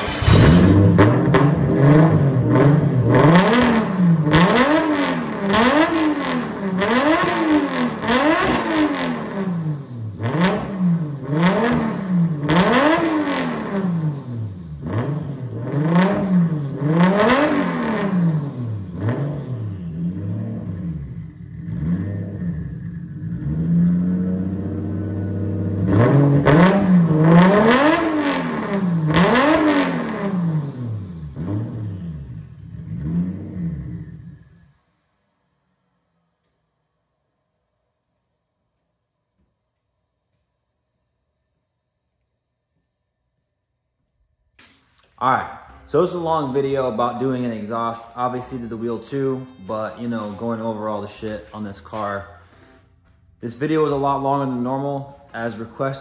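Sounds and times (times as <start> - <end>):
car engine revving and idling: 0.0 - 36.6, 45.3 - 56.0.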